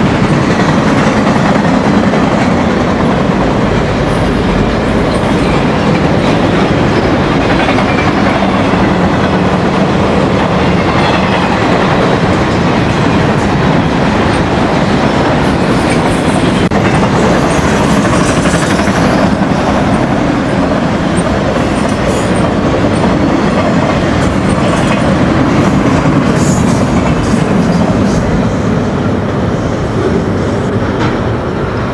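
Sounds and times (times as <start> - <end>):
freight train wheels rumbling: 0.0 - 31.9.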